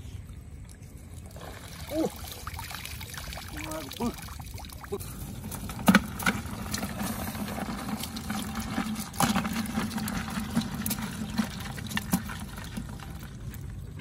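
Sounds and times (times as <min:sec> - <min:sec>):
low steady hum: 0:00.0 - 0:14.0
water draining and dripping: 0:00.7 - 0:14.0.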